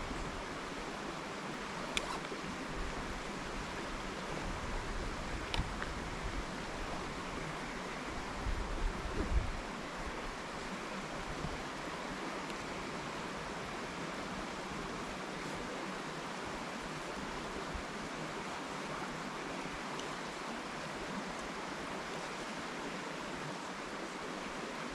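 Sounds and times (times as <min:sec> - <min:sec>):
river water running: 0:00.0 - 0:24.9.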